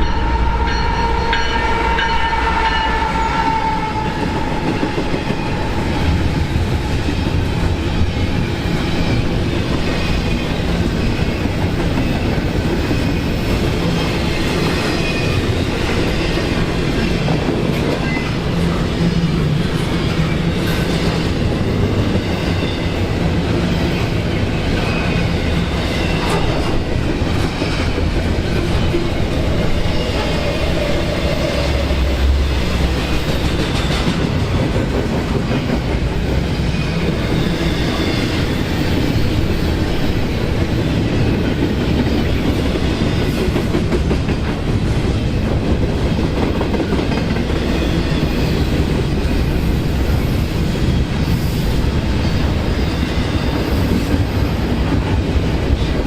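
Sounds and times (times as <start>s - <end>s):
train wheels clattering over rails: 4.1s - 56.0s.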